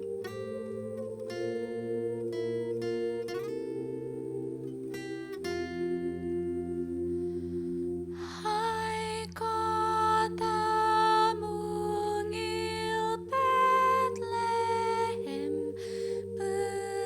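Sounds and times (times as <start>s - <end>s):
person humming a slow hymn: 0.0s - 17.0s
sustained low chord tones: 0.0s - 17.0s.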